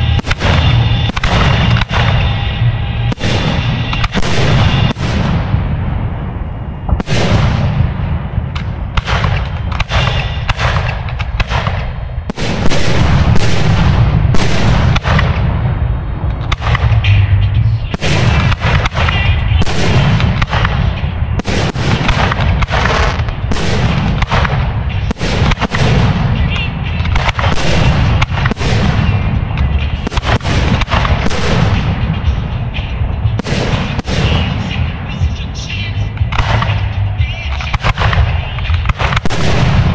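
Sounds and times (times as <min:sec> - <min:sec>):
fireworks bangs: 0:00.0 - 0:17.2, 0:17.9 - 0:39.9
continuous low rumble: 0:00.0 - 0:39.9.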